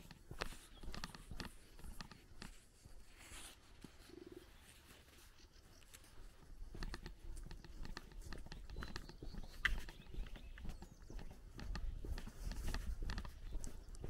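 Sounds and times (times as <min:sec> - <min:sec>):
footsteps on dirt road: 0:00.0 - 0:14.0.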